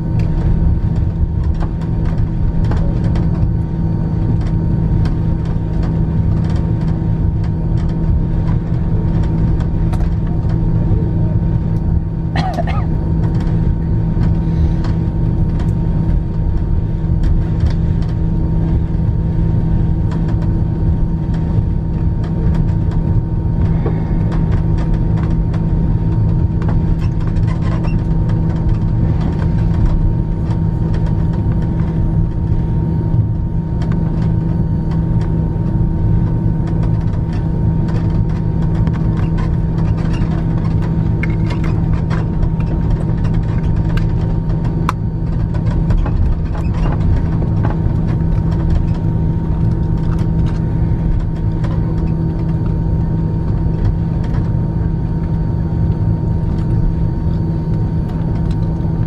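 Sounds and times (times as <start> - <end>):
aircraft cabin hum: 0.0 - 59.0.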